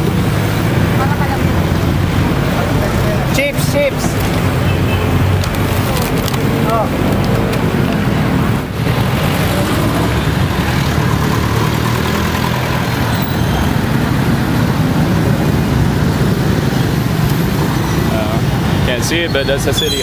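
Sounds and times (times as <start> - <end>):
busy road traffic: 0.0 - 20.0.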